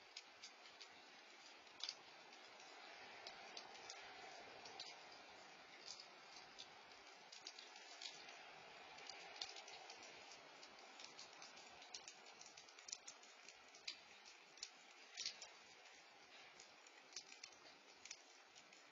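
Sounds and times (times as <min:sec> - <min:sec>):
faint steady hiss: 0:00.0 - 0:18.9
soft ticks and taps: 0:00.1 - 0:18.9.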